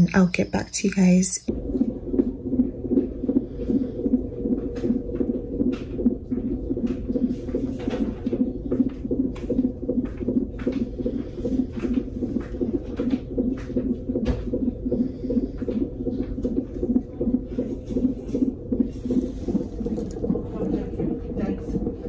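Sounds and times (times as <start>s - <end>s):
fetal heartbeat whooshing pulse: 0.0s - 22.0s.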